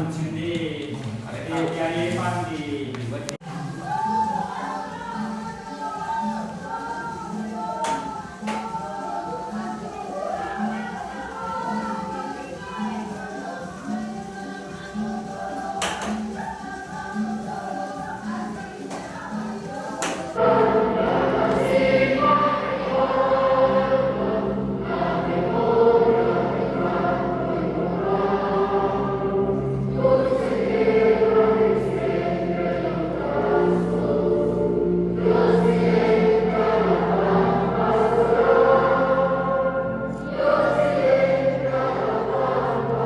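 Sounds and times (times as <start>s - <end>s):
choir singing: 3.4s - 43.0s.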